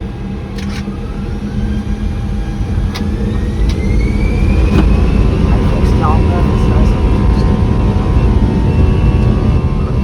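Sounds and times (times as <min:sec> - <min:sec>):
jet engines spooling up: 0:00.0 - 0:10.0.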